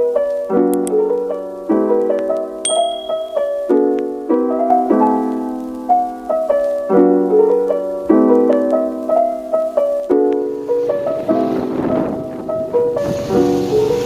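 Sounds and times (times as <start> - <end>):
soft piano chords and melody: 0.0 - 14.0.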